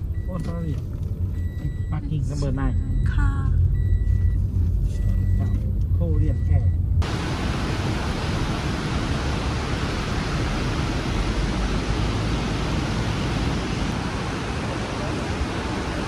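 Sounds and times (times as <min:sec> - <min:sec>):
rushing noise with low rumble: 0:00.0 - 0:16.0.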